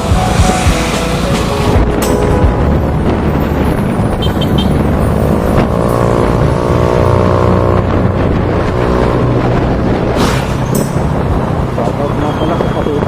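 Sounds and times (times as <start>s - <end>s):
road and wind noise: 0.0s - 13.0s
vehicle running: 0.0s - 13.0s.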